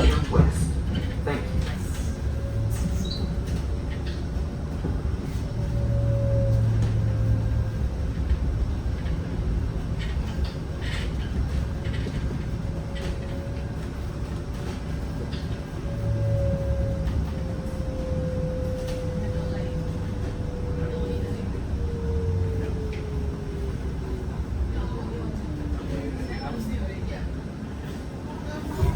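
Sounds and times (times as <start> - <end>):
bus road rumble: 0.0 - 28.9.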